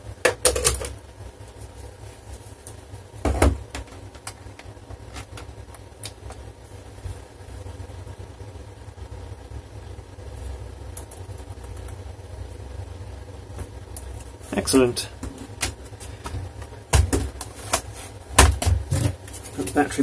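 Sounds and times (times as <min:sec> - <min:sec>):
steady low rumble: 0:01.0 - 0:18.4.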